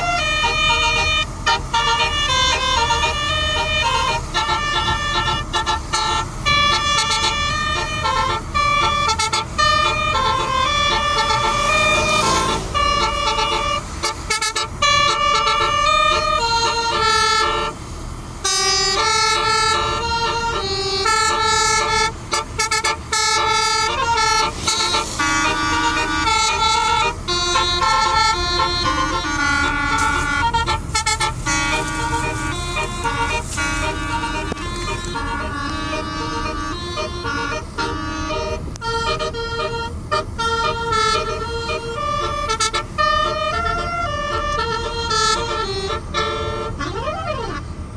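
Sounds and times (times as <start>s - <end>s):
musical air horn playing a tune: 0.0s - 17.8s, 18.4s - 47.7s.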